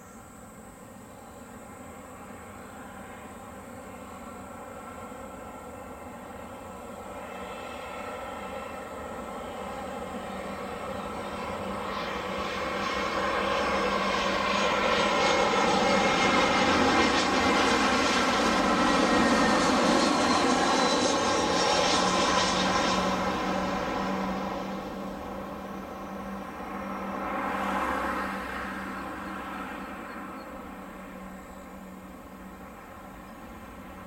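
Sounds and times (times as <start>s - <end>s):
jet airliner engines whining: 0.0s - 34.0s.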